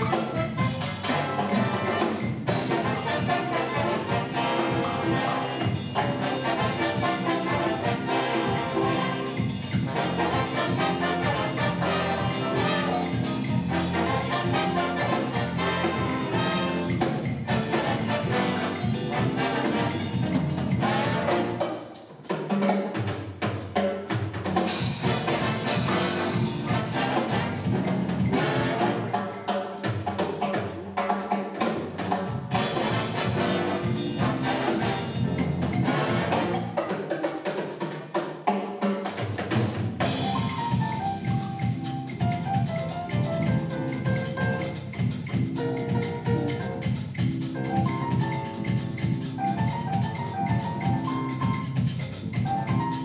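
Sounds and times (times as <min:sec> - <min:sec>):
jazz big band playing: 0:00.0 - 0:53.0.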